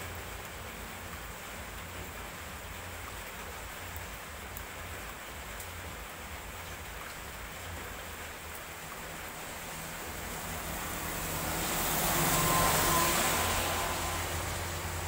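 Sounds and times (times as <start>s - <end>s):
rain hissing: 0.0s - 15.0s
vehicle on wet road: 0.0s - 15.0s.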